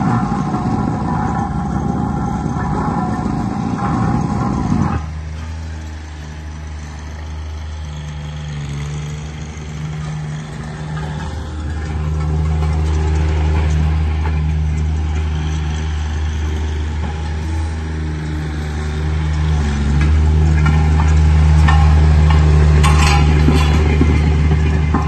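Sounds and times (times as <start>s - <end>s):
diesel engine running: 0.0s - 25.0s
light metallic rattles: 0.0s - 25.0s.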